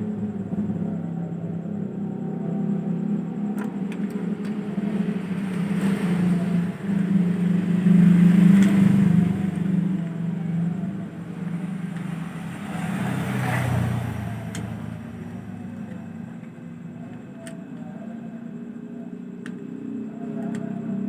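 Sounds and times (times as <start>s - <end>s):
motor humming: 2.2s - 21.0s.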